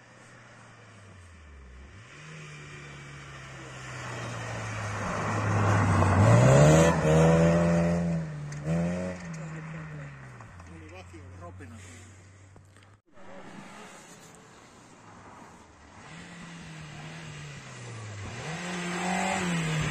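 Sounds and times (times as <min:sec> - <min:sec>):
rally car engine passing by: 0:00.1 - 0:12.2, 0:13.2 - 0:19.9.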